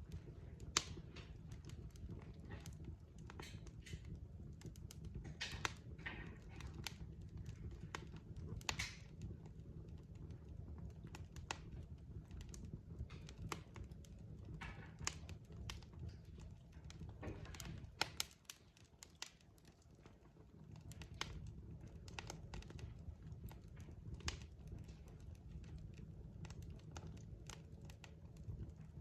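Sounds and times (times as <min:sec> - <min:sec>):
fire hissing flare-ups: 0:00.0 - 0:29.0
wood fire crackling: 0:00.0 - 0:29.0.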